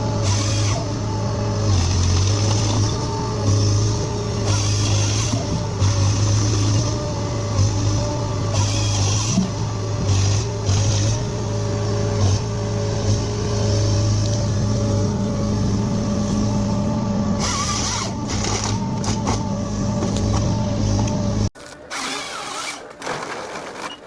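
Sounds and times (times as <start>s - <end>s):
heavy machine engine running: 0.0s - 21.6s.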